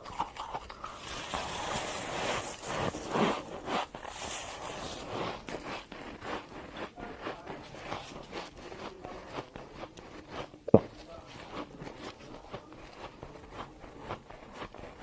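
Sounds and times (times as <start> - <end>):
crisp crunches of chewing frost: 0.0 - 15.0.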